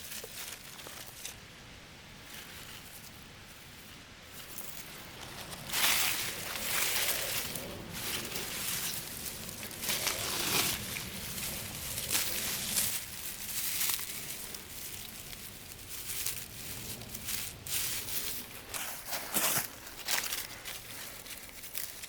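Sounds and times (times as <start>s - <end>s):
footsteps crunching on trail: 4.3s - 22.0s.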